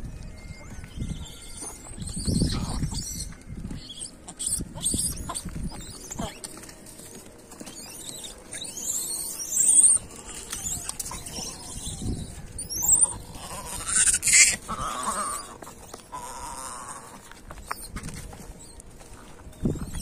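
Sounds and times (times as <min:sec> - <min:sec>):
monkeys calling: 0:00.6 - 0:06.7, 0:07.5 - 0:17.9.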